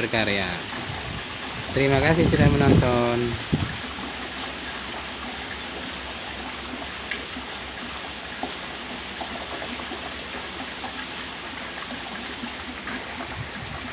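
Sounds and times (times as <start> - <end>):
water splashing into pond: 0.0 - 13.9.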